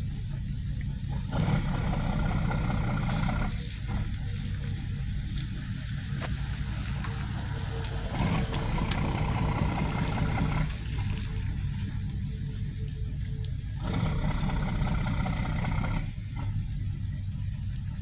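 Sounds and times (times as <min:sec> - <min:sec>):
faint hum: 0:00.0 - 0:18.0
ferry engines rumbling: 0:00.0 - 0:18.0
light ticks: 0:02.4 - 0:14.0, 0:14.9 - 0:18.0.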